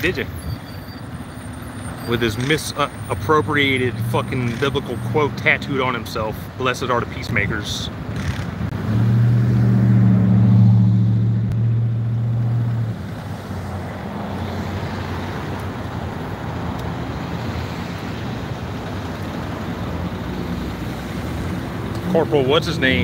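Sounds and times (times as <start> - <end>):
road traffic noise: 0.0 - 23.0
vehicle engine droning: 0.0 - 23.0.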